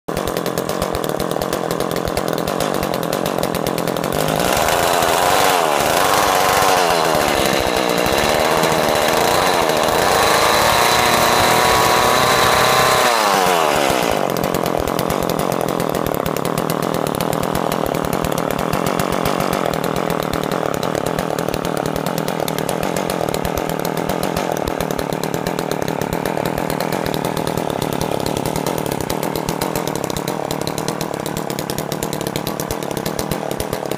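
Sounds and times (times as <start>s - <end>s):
ice auger engine revving: 0.1s - 33.9s.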